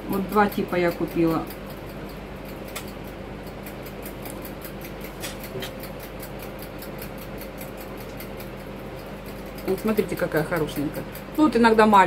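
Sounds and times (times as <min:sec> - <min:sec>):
room hum: 0:00.0 - 0:12.0
faint fast regular ticking: 0:00.2 - 0:12.0.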